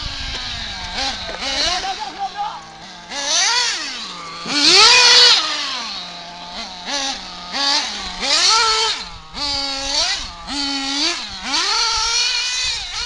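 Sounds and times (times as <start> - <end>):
small two-stroke engine revving: 0.0 - 13.0.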